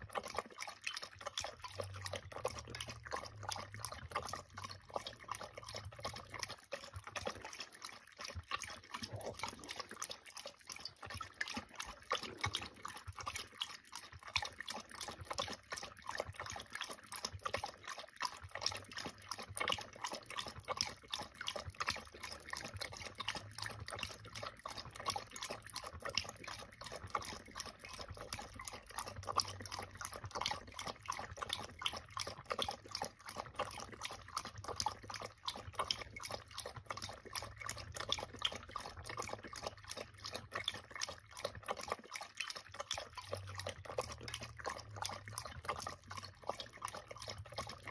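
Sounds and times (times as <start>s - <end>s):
dog lapping water from metal bowl: 0.0s - 47.9s.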